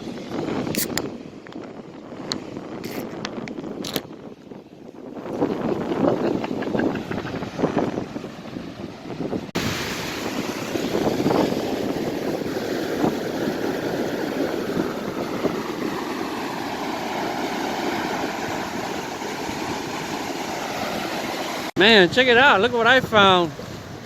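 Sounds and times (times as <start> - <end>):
wind on microphone: 0.0 - 24.0
ocean surf washing on beach: 4.5 - 24.0.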